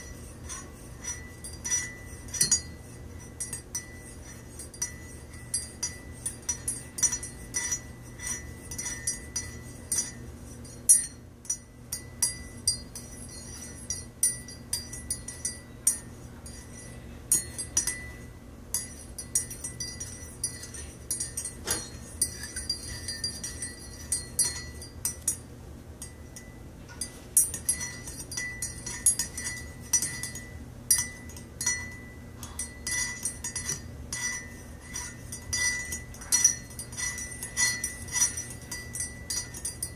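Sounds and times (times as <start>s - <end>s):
teaspoon clinking in a ceramic mug: 0.0s - 39.9s.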